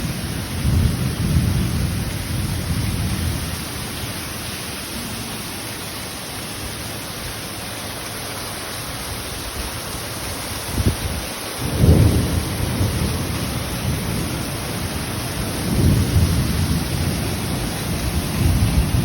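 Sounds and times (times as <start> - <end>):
thunder rumbling: 0.0 - 6.8, 10.6 - 19.0
steady rain: 0.0 - 19.0.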